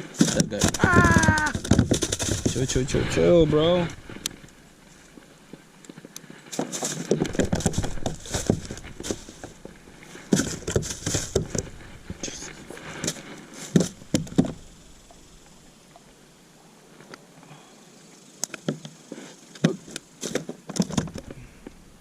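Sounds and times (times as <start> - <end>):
rustling of fishing gear: 0.0 - 17.6, 18.5 - 22.0.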